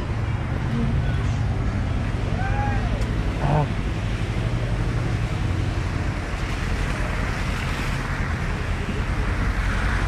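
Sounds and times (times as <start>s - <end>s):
street ambience on wet pavement: 0.0s - 10.0s.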